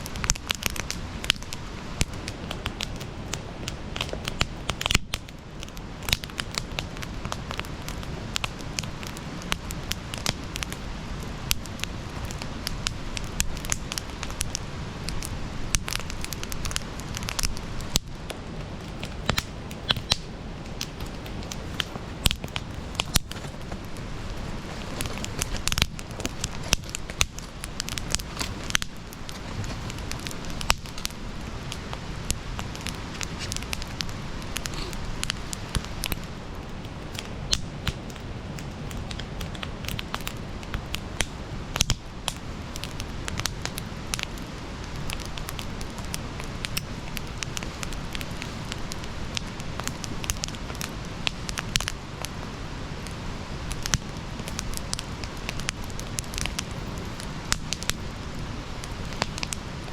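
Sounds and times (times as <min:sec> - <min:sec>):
campfire crackles and pops: 0:00.0 - 0:59.9
flames hissing and rumbling: 0:00.0 - 0:59.9.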